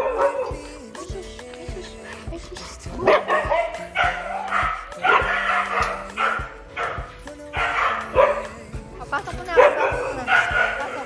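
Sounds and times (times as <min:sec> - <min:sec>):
huskies calling: 0:00.0 - 0:11.0.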